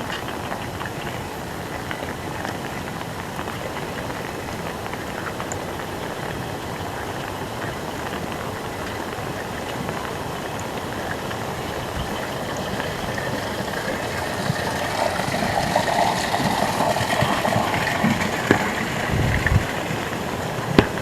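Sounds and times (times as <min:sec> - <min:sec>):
heavy rain hiss: 0:00.0 - 0:21.0
raindrops ticking close by: 0:00.0 - 0:21.0.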